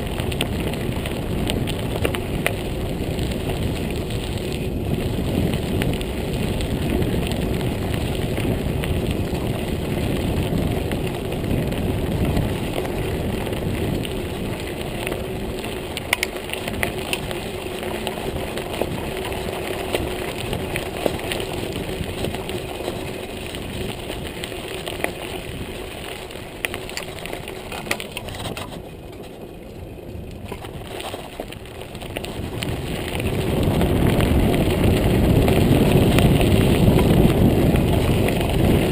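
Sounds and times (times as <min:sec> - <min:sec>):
bike clicks and rattles: 0:00.0 - 0:38.9
bike tyres on gravel: 0:00.0 - 0:38.9.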